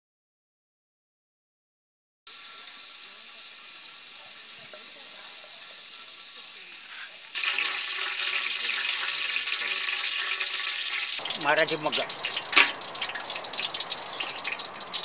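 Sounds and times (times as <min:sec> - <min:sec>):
oil sizzling in pot: 0:02.3 - 0:15.0.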